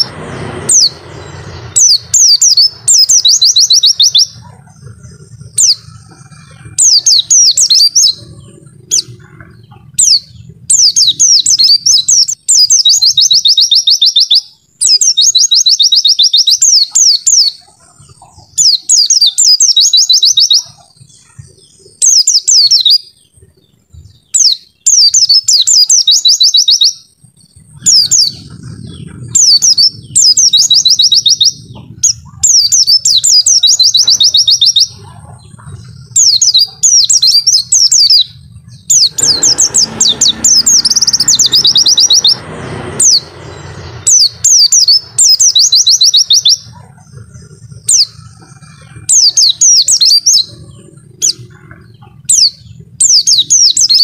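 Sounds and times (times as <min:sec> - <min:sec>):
bird twittering chirps: 0:00.0 - 0:54.0.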